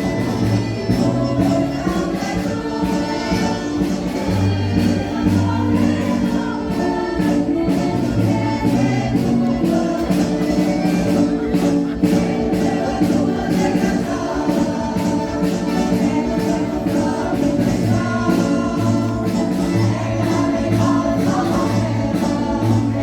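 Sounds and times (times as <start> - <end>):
chorus singing with band: 0.0 - 23.0.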